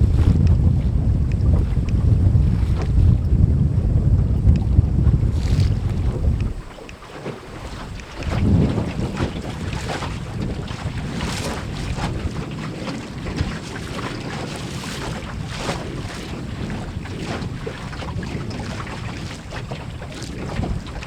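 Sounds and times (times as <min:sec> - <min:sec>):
water slapping against hull: 0:00.0 - 0:21.0
wind buffeting microphone: 0:00.0 - 0:21.0.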